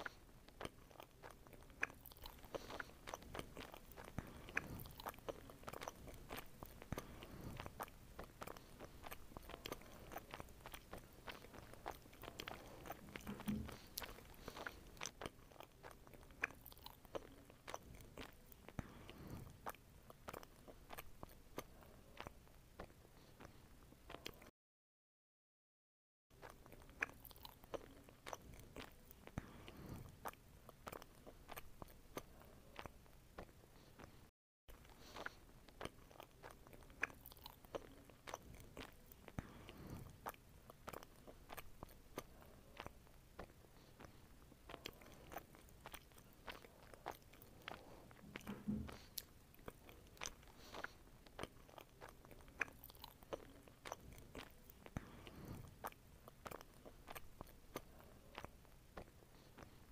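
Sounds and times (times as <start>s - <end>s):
person chewing juicy fruit: 0.0s - 24.5s, 26.3s - 59.9s.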